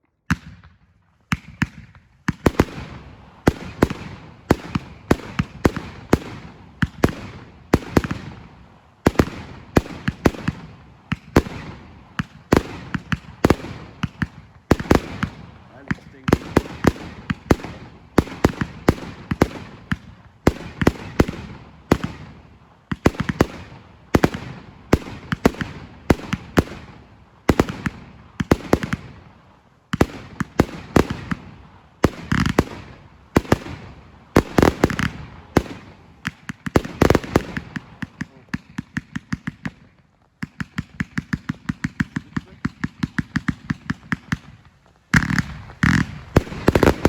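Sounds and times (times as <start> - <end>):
fast run of firework shots: 0.3 - 47.0
firework bangs: 0.3 - 47.0
firework crackling: 1.4 - 47.0.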